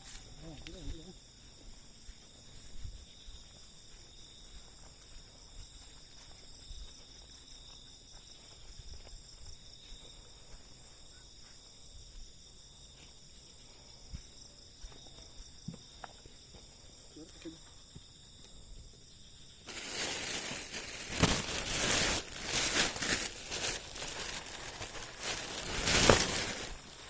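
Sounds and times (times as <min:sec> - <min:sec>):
night insects chirping: 0:00.0 - 0:27.0.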